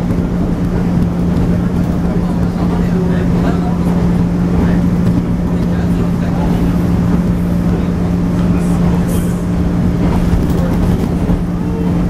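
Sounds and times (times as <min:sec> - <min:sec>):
electric train motors humming: 0:00.0 - 0:12.0
wheels rumbling on track: 0:00.0 - 0:12.0.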